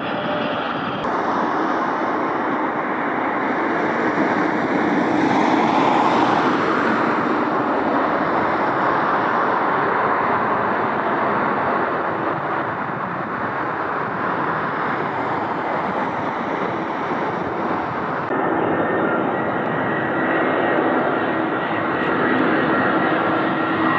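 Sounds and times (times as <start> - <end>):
jet engine rushing: 0.0 - 23.9.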